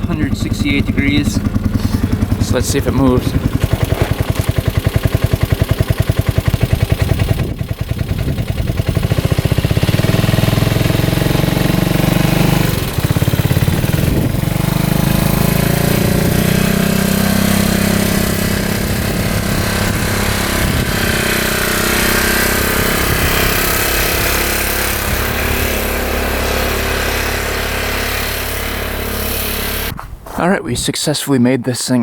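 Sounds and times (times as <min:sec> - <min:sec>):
utility vehicle engine: 0:00.0 - 0:30.3.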